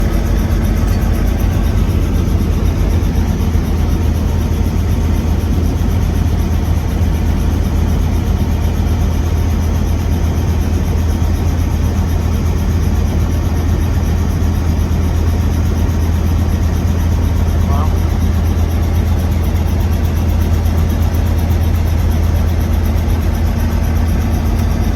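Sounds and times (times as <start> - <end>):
helicopter engine and rotor drone: 0.0 - 24.9.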